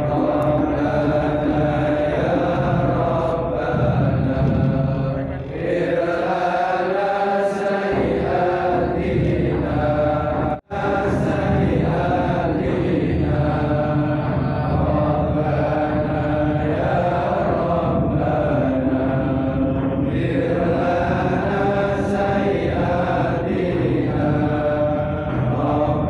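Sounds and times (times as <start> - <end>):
voices chanting: 0.0 - 26.0.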